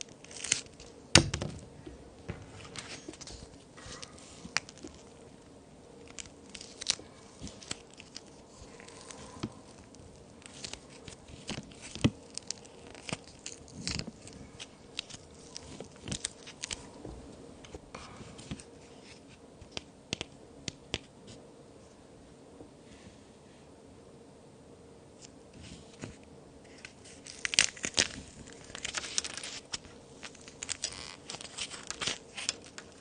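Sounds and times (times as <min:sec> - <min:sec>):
plaster cookies cracking: 0:00.0 - 0:16.9, 0:18.4 - 0:21.1, 0:25.2 - 0:33.0.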